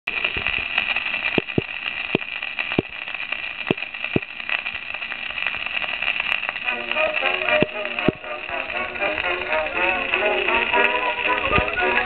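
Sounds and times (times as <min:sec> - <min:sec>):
record pops and clicks: 0:00.0 - 0:12.0
record surface hiss: 0:00.0 - 0:12.0.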